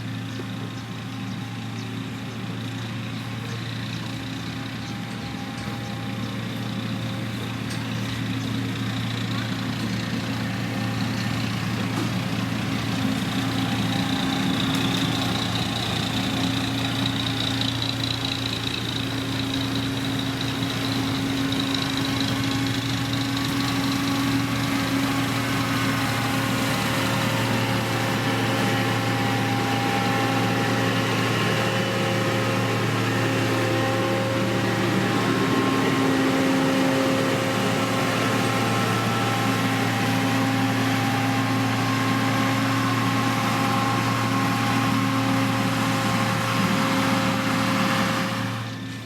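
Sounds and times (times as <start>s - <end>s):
diesel engine humming: 0.0s - 49.0s.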